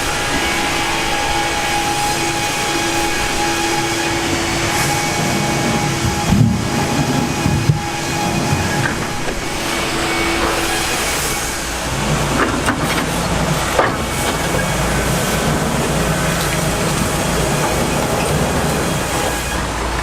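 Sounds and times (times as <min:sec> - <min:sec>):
sawmill machinery rumbling: 0:00.0 - 0:20.0.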